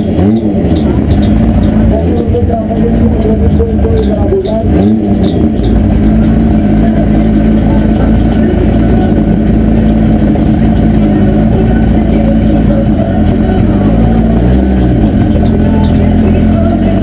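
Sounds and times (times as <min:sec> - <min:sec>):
turbocharged car engine running: 0:00.0 - 0:17.0.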